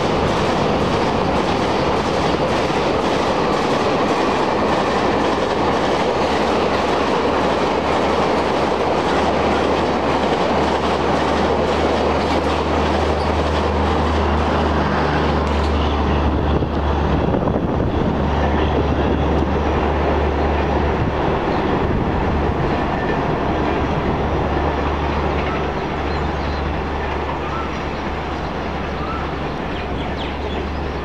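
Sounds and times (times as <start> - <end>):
train rumbling and clattering: 0.0 - 31.0.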